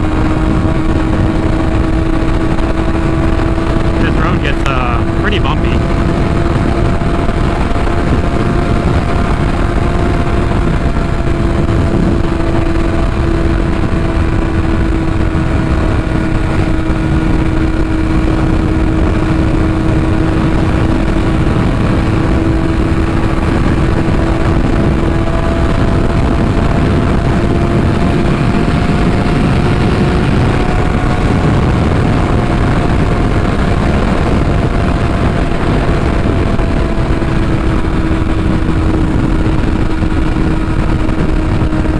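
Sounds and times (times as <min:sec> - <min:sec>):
motorcycle engine cruising: 0:00.0 - 0:04.1, 0:05.0 - 0:05.2, 0:05.8 - 0:41.9
wind noise on microphone: 0:00.0 - 0:04.4, 0:05.0 - 0:41.9.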